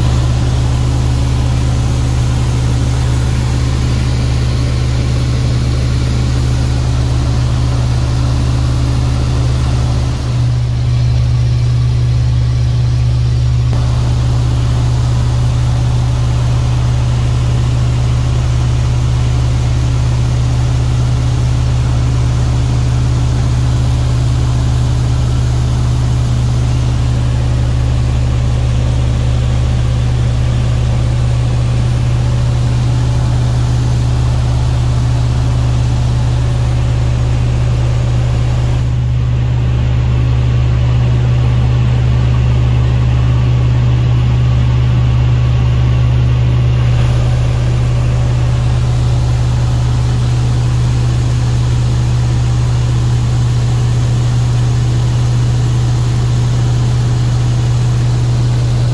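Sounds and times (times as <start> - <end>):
light aircraft engine droning: 0.0 - 58.9.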